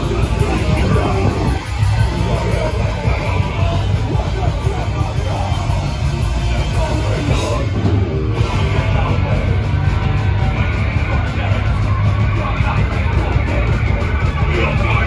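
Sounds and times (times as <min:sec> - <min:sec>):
bass: 0:00.0 - 0:15.0
distorted electric guitars: 0:00.0 - 0:15.0
drums: 0:00.0 - 0:15.0.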